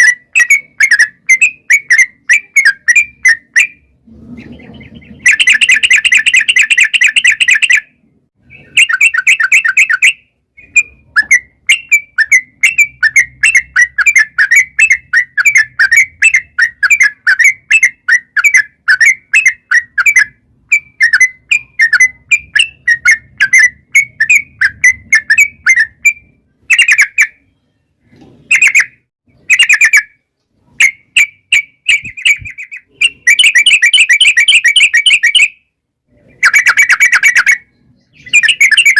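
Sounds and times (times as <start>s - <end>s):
bird rolling song: 0.0s - 30.2s, 36.1s - 38.9s.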